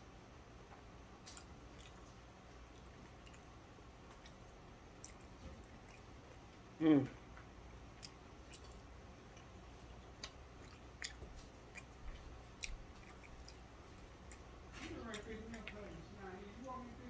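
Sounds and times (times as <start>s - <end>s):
chewing: 1.2s - 16.8s.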